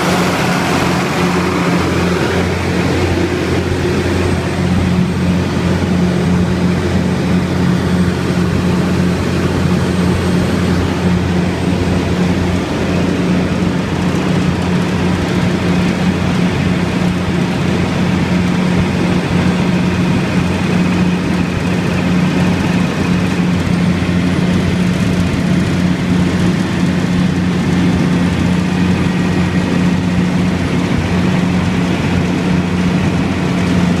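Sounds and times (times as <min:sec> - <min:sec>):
diesel generator running: 0:00.0 - 0:34.0
loud low hum: 0:00.0 - 0:34.0.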